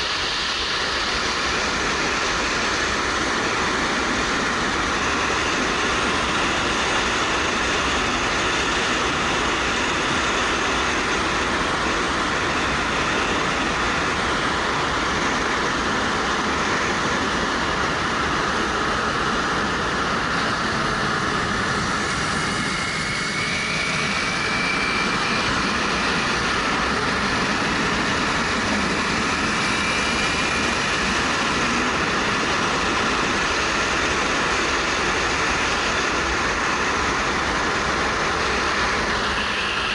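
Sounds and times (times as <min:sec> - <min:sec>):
faint high whine: 0:00.0 - 0:39.9.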